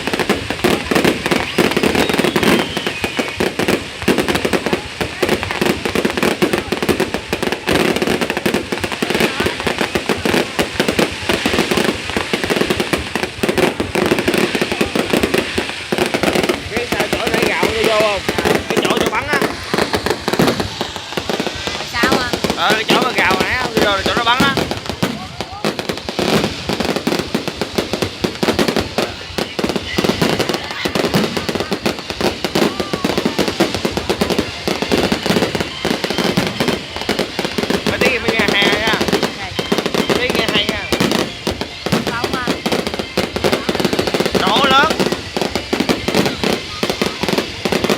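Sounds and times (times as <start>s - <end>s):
crowd voices: 0.0s - 47.9s
fireworks bangs and crackles: 0.0s - 47.9s.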